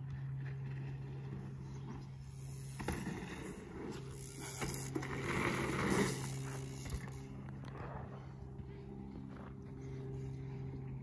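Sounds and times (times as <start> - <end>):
bike tyres rolling over dirt: 0.0 - 11.0
steady low hum: 0.0 - 11.0.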